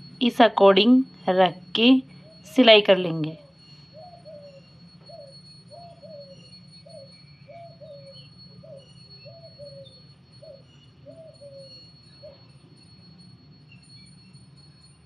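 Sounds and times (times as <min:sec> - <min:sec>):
steady low hum: 0:00.0 - 0:15.0
faint small bird chirps: 0:01.1 - 0:15.0.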